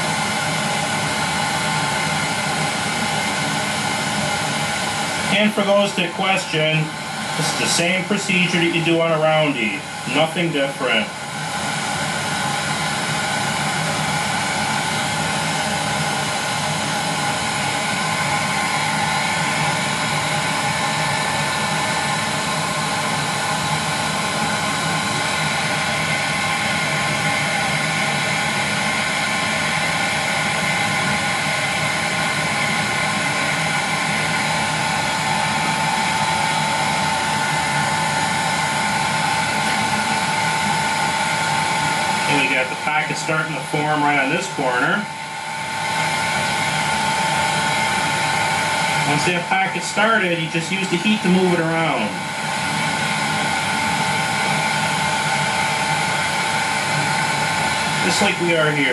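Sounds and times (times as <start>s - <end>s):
heat gun blowing air: 0.0s - 58.9s
motor whine: 0.0s - 58.9s.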